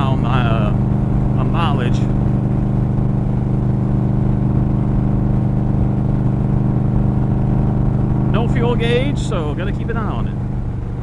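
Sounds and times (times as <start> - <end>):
motorcycle engine cruising: 0.0 - 11.0
road rumble: 0.0 - 11.0
wind: 0.0 - 11.0.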